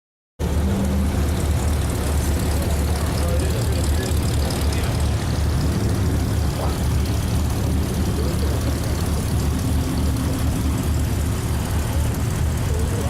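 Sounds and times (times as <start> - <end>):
pickup engine low rumble: 0.4 - 13.0.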